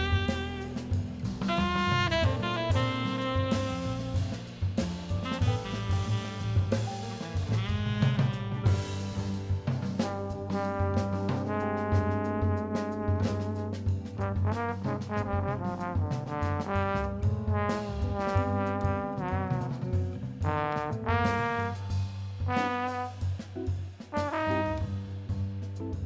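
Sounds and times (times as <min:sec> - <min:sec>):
bass backing: 0:00.0 - 0:26.0
horn playing jazz melody: 0:00.0 - 0:26.0.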